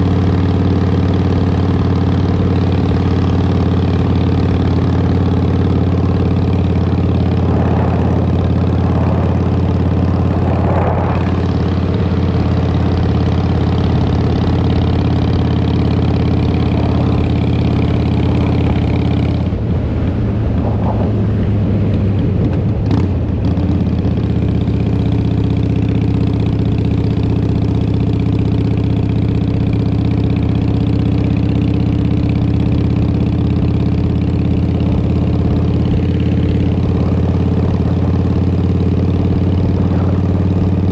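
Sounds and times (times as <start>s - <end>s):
motorcycle exhaust note: 0.0s - 40.9s.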